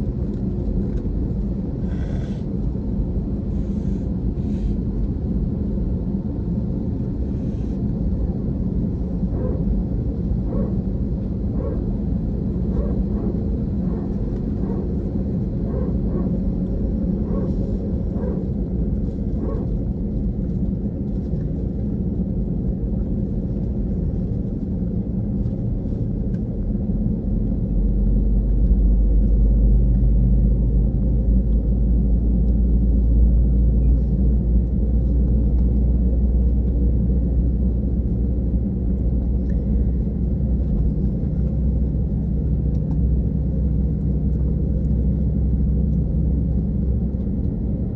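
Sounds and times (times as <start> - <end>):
airliner cabin rumble and hum: 0.0 - 47.9.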